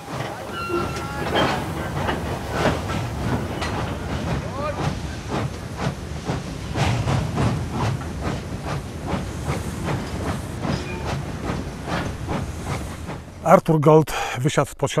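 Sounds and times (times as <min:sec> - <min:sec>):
train wheels clacking on rail joints: 0:00.0 - 0:13.5
train rolling hiss and rumble: 0:00.0 - 0:14.4.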